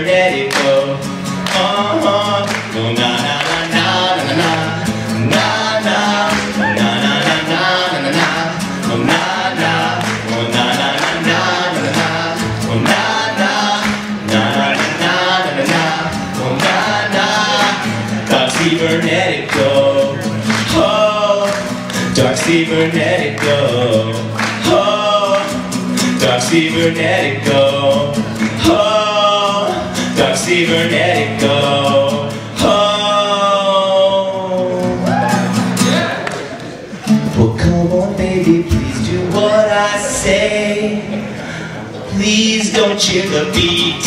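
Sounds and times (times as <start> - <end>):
man singing: 0.0 - 36.1, 37.0 - 44.0
acoustic guitar strumming: 0.0 - 44.0.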